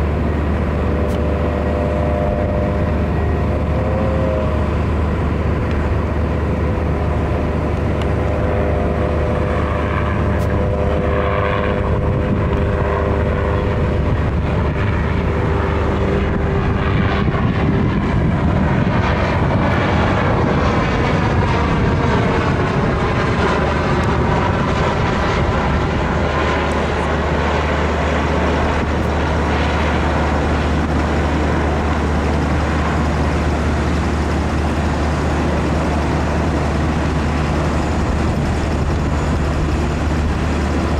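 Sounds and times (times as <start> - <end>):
helicopter flying past: 0.0 - 40.9
helicopter whine: 0.0 - 40.9.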